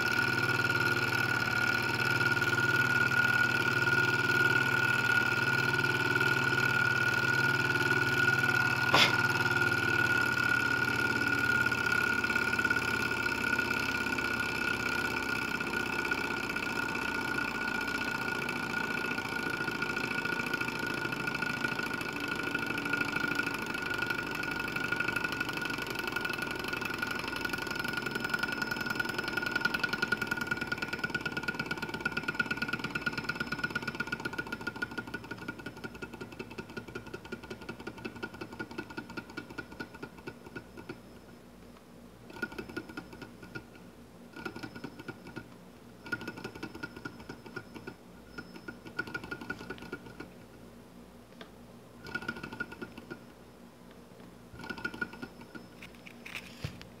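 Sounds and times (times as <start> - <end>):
model engine clatter and whine: 0.0 - 41.4, 42.2 - 50.5, 52.0 - 53.4, 54.5 - 57.0.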